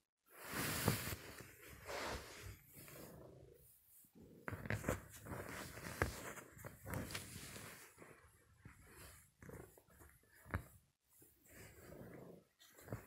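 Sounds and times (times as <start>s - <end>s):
blankets rustling: 0.3s - 3.4s, 4.0s - 13.0s.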